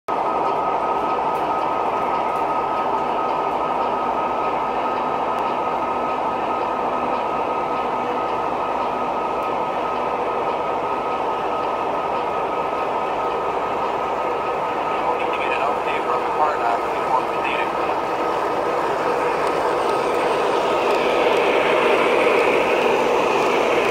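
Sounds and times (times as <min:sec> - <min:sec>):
model train motors rumbling: 0:00.1 - 0:23.9
steady high whine: 0:00.1 - 0:23.9.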